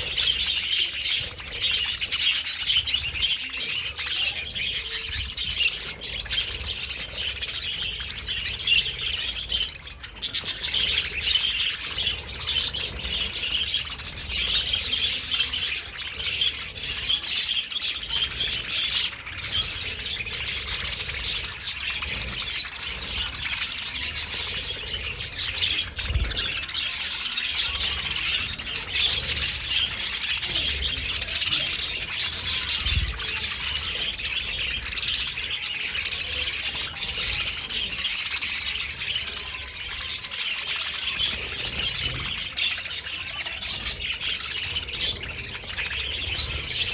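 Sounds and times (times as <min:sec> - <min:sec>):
budgerigars chattering and chirping: 0:00.0 - 0:46.9.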